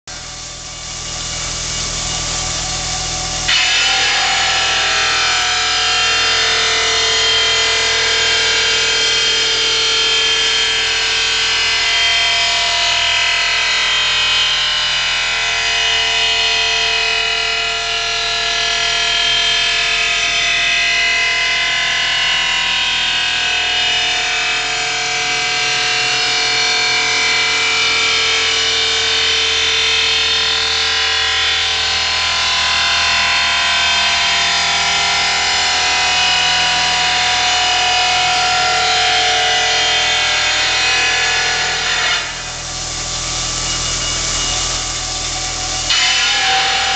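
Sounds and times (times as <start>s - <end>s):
high-pitched machine whine: 0.1s - 46.9s.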